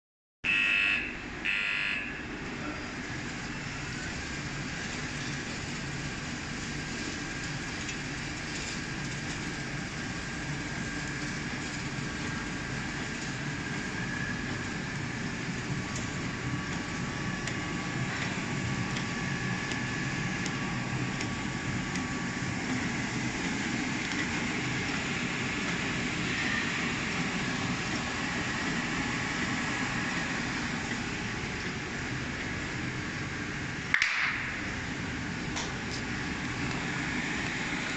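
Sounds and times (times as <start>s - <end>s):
machine whirring and humming: 0.5s - 37.9s.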